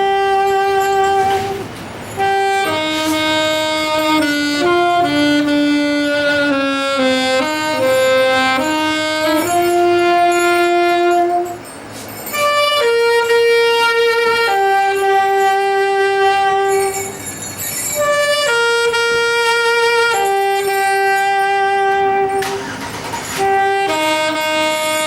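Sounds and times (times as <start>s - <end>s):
wind band playing held chords: 0.0s - 25.0s.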